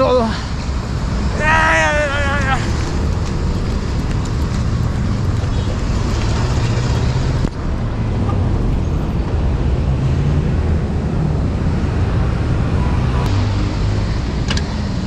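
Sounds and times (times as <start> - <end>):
street traffic roar: 0.0 - 15.0
wind rumbling on microphone: 0.6 - 15.0.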